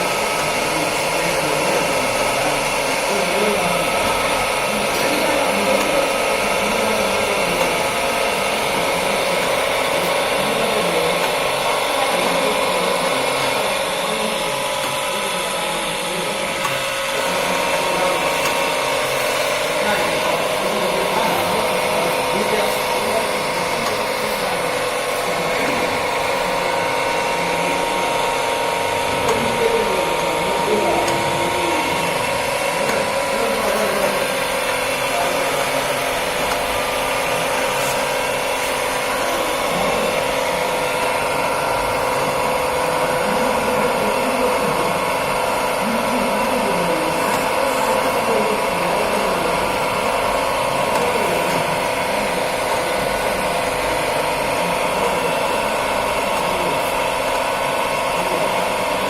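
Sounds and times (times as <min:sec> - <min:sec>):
lathe mechanical whine: 0:00.0 - 0:59.0.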